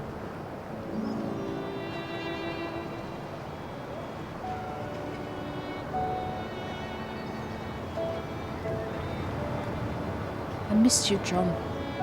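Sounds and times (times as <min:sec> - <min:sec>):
slow violin music: 0:00.0 - 0:12.0.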